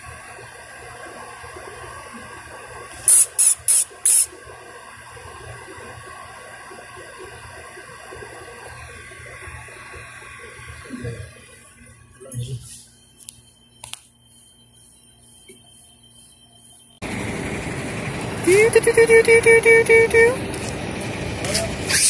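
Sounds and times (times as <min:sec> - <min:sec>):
air conditioner hum and whine: 0:00.0 - 0:22.0.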